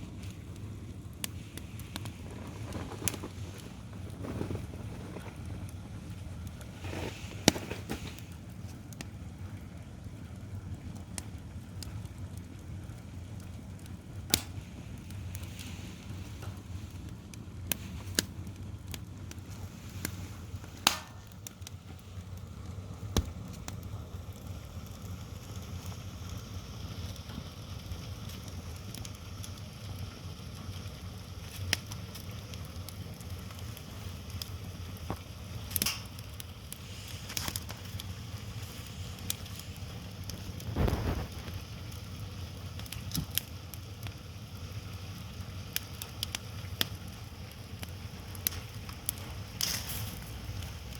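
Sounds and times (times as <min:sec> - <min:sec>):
fire pops: 0:00.0 - 0:50.9
firewood burning and crackling: 0:00.0 - 0:50.9.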